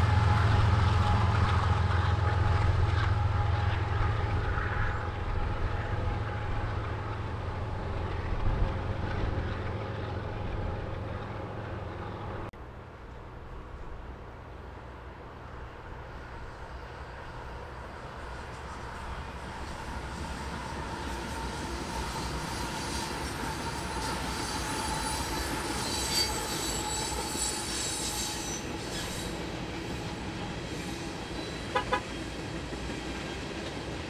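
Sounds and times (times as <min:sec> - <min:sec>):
train rumbling by: 0:00.0 - 0:34.0.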